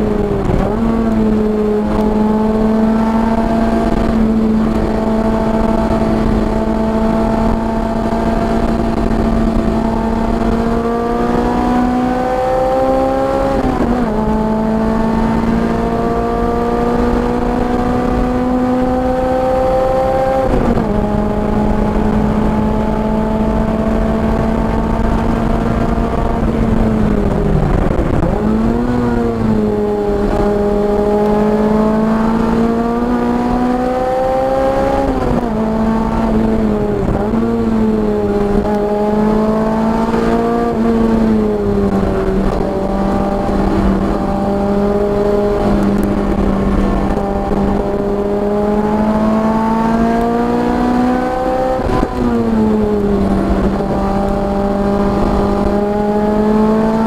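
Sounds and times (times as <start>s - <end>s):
car engine at full throttle: 0.0s - 57.0s
road and wind noise: 0.0s - 57.0s.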